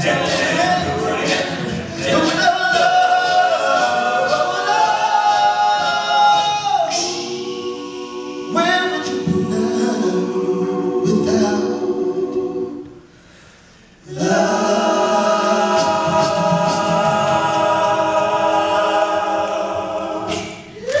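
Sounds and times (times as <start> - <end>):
male group singing a cappella: 0.0 - 12.8, 14.0 - 20.7.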